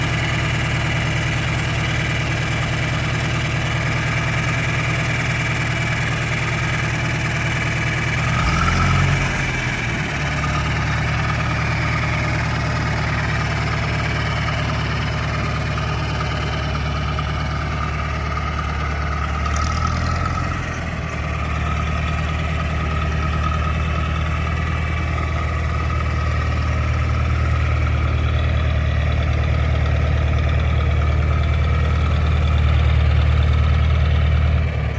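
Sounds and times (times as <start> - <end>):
tractor engine idling: 0.0 - 34.9.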